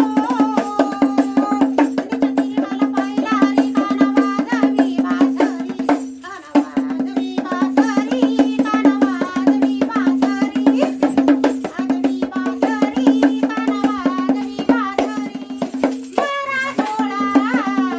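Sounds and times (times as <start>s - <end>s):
fast clicking percussion: 0.0s - 17.9s
person singing melody: 0.0s - 17.9s.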